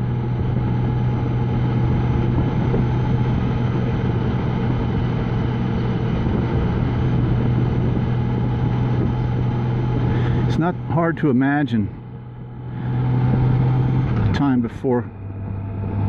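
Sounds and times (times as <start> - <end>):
motorcycle engine hum: 0.0 - 16.0
wind and road noise: 0.0 - 16.0.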